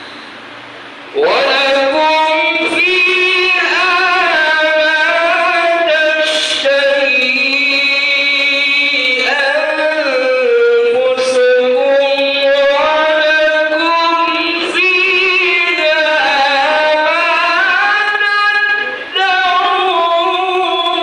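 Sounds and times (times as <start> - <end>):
man chanting into a microphone: 1.2 - 21.0.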